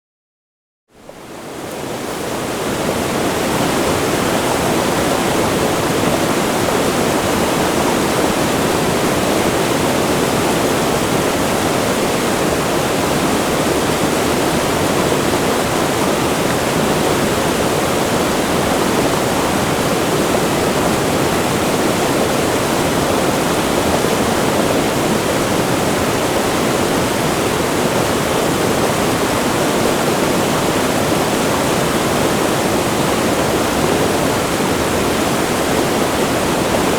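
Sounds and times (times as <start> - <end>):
water rushing near waterfall: 1.0 - 36.9.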